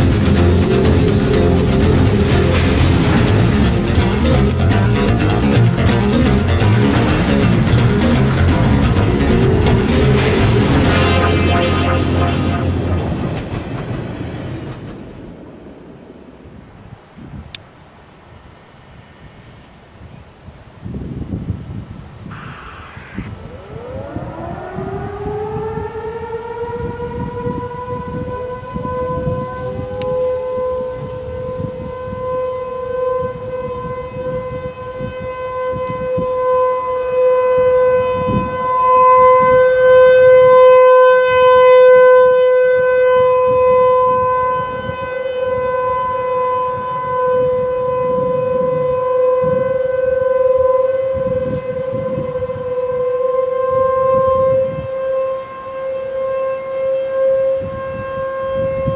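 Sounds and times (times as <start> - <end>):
warning sirens wailing: 0.0 - 15.3, 22.2 - 58.9
wind rumbling on microphone: 0.0 - 58.9.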